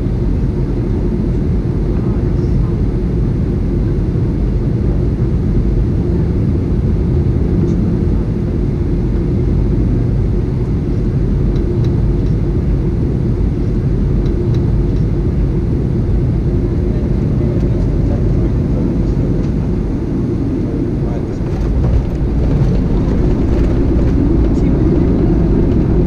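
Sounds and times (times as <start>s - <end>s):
airliner engines and airflow rumble: 0.0s - 26.0s.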